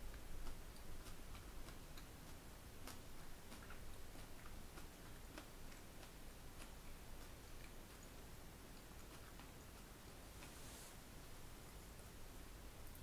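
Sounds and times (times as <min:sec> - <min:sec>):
faint ticks and clicks: 0:00.0 - 0:13.0
low hiss: 0:00.0 - 0:13.0.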